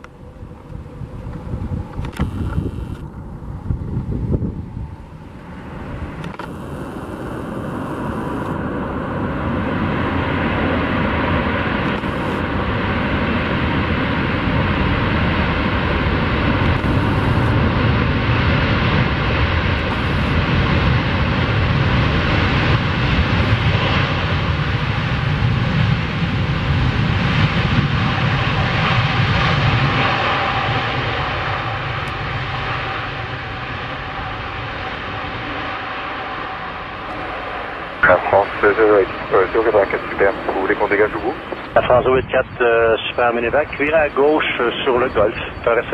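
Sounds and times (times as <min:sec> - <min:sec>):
jet engines rushing: 0:00.0 - 0:45.9.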